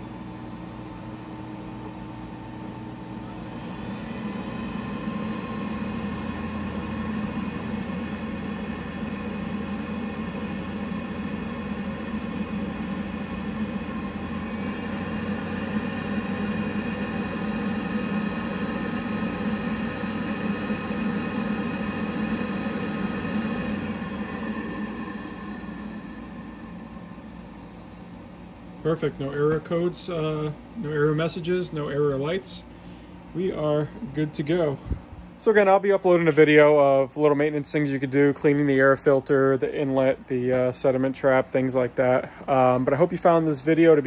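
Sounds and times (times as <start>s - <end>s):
boiler humming and whirring: 0.0s - 44.0s.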